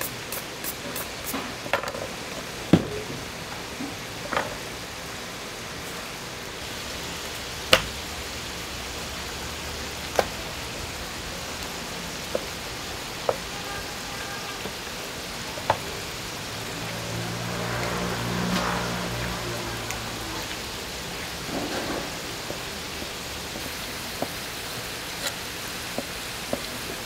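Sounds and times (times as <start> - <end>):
meat sizzling on a griddle: 0.0 - 2.7, 3.4 - 27.0.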